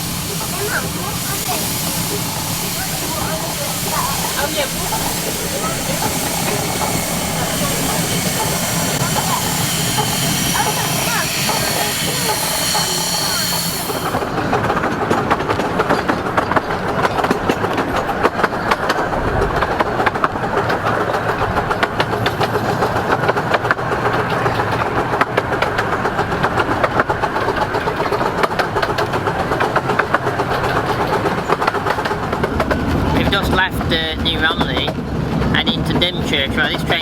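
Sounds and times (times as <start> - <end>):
train rumbling along track: 0.0 - 37.0
wheels clattering over rails: 0.0 - 37.0.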